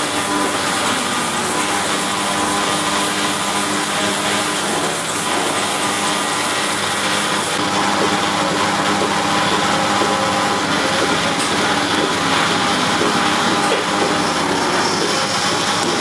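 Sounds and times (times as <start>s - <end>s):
machine whirring hum: 0.0s - 16.0s
rotating brushes scrubbing: 0.0s - 16.0s.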